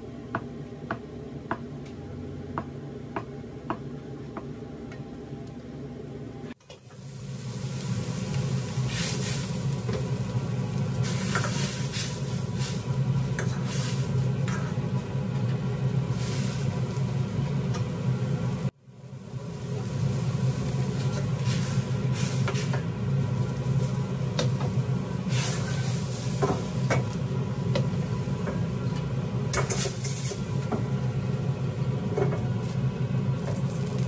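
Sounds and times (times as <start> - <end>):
low burner hum: 0.0 - 34.0
food sizzling in a wok: 6.6 - 34.0.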